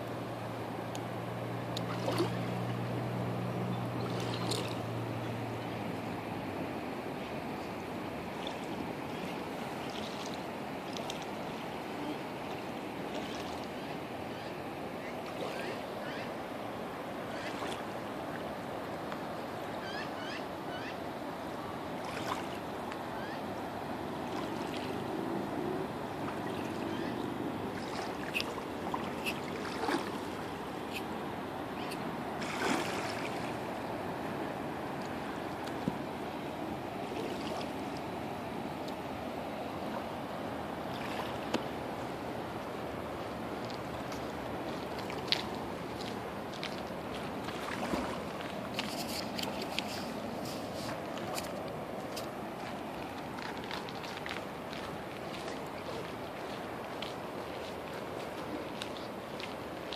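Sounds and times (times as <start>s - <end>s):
rushing flood water: 0.0s - 59.9s.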